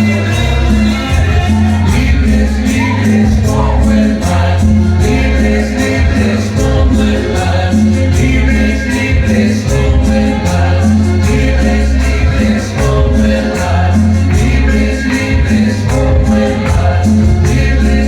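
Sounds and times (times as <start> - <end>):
pulsing bass line: 0.0 - 18.0
shaker and scraper percussion: 0.0 - 18.0.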